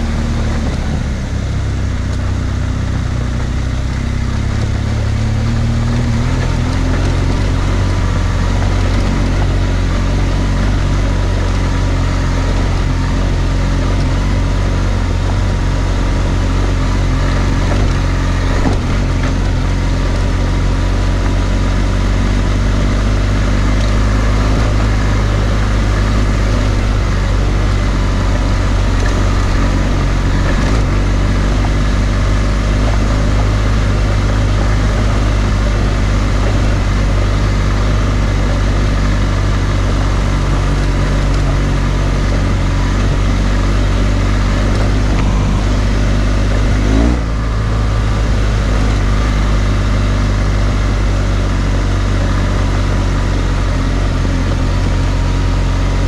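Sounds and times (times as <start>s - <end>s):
motorcycle engine running: 0.0s - 56.0s
tyres on gravel: 0.0s - 56.0s.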